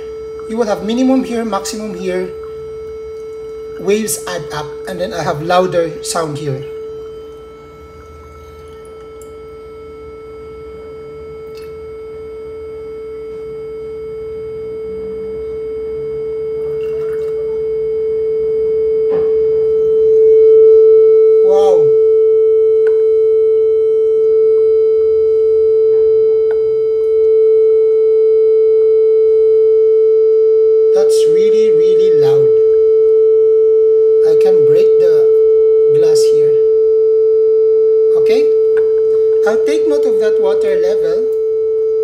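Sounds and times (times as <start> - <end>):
pure tone resonating in jar: 0.0 - 42.0.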